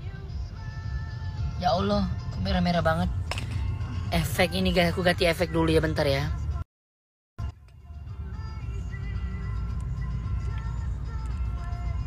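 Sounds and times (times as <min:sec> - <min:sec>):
car rumble: 0:00.0 - 0:06.6, 0:07.4 - 0:12.0.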